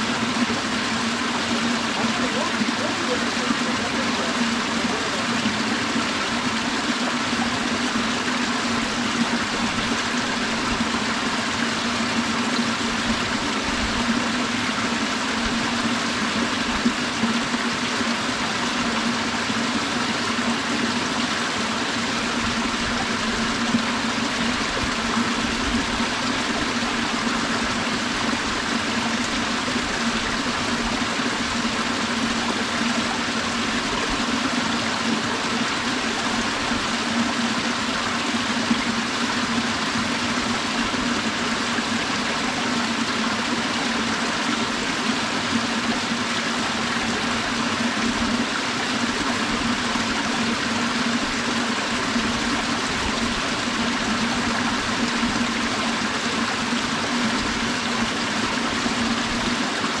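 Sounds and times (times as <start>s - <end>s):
stream flowing over rocks: 0.0s - 60.0s.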